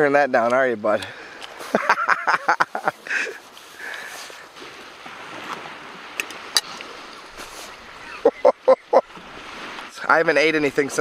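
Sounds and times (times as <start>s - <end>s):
lake waves washing on shore: 0.0s - 11.0s
steady wind: 0.0s - 11.0s.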